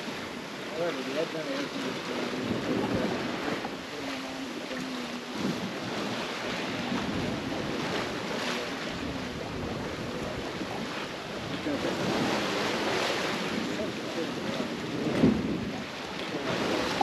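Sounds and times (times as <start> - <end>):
water rushing along boat hull: 0.0 - 17.0
wind on microphone: 0.0 - 17.0.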